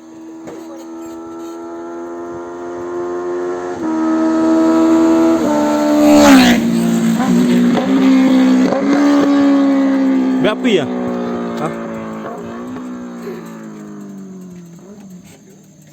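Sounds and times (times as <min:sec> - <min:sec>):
motorcycle engine passing by: 0:00.0 - 0:15.9.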